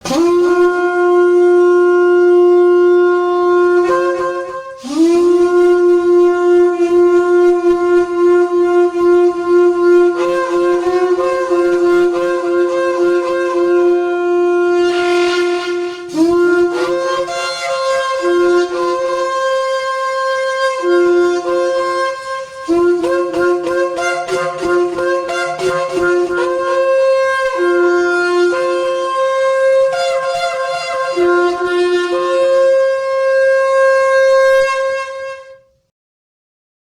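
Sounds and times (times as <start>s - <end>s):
horn blasts low and high notes: 0.0s - 35.7s.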